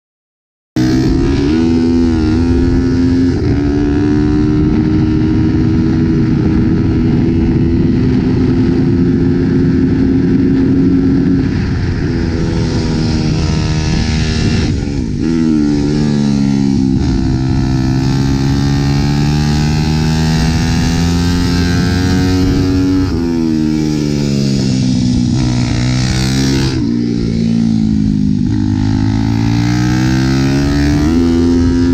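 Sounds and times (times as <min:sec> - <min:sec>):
motorcycle engine revving: 0:00.8 - 0:31.9.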